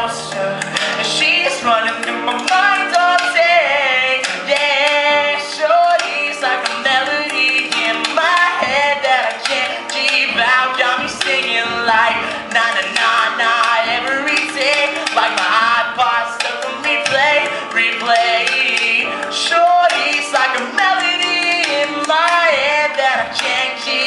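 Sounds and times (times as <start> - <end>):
grand piano chords: 0.0 - 24.0
young man singing: 0.0 - 24.0.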